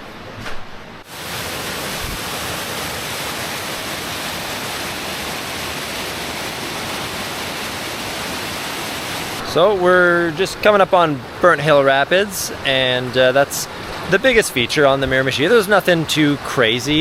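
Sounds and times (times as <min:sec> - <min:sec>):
river rapids rushing: 0:01.0 - 0:17.0.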